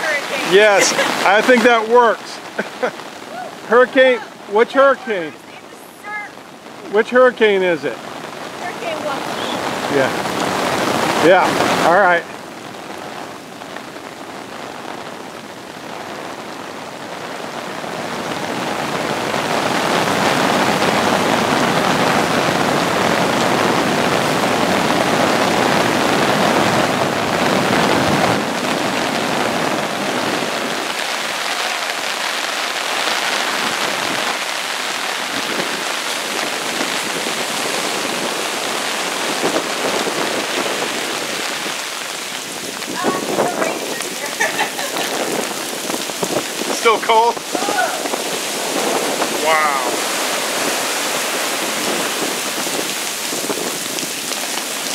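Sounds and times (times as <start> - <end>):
rain: 0.0 - 54.9
storm surf breaking on beach: 0.0 - 54.9.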